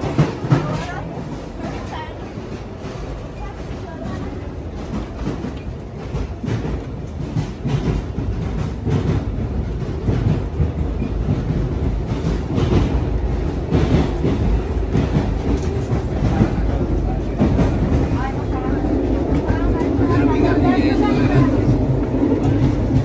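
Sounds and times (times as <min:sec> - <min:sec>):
train carriage rumble: 0:00.0 - 0:23.0.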